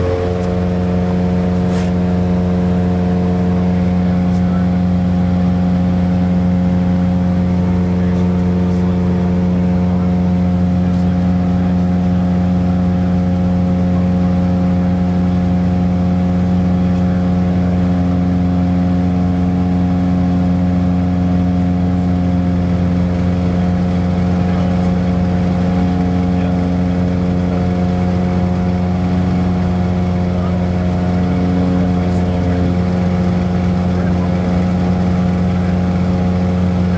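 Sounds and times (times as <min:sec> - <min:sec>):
propeller plane engine drone: 0:00.0 - 0:36.9.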